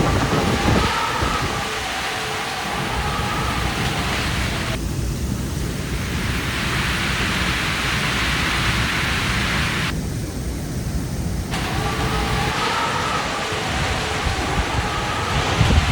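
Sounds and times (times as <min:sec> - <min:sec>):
heavy rain falling: 0:00.0 - 0:04.8, 0:05.6 - 0:15.9.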